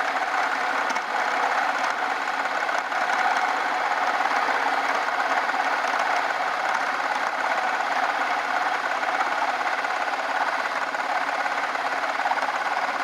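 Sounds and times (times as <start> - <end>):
metal lathe rattling: 0.0 - 13.0.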